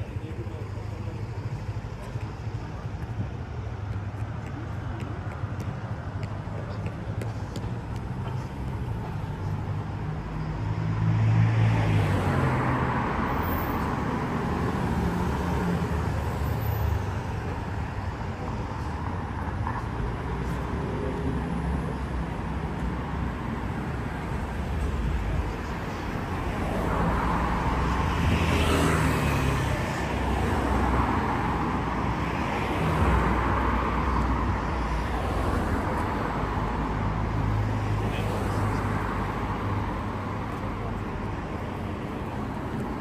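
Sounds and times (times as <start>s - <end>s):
city road traffic: 0.0s - 43.0s.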